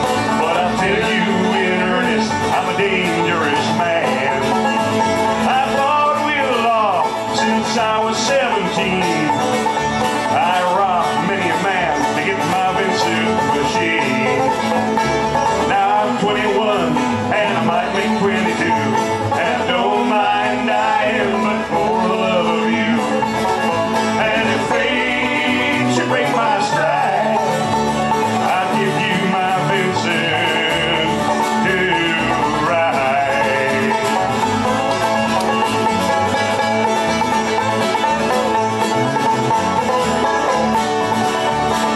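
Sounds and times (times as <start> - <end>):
bass: 0.0 - 41.9
bluegrass band playing: 0.0 - 41.9
fast picked acoustic guitars: 0.0 - 41.9.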